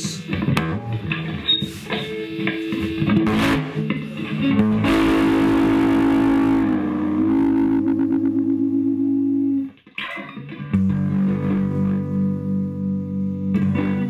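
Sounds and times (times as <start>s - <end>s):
electric guitar notes and strums: 0.0s - 14.0s
electric guitar chord ringing: 2.1s - 14.0s.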